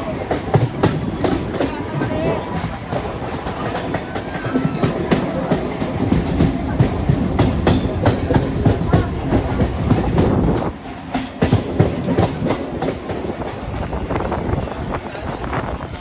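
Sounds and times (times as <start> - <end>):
train rumble: 0.0 - 16.0
train wheels clattering over rail joints: 0.0 - 16.0.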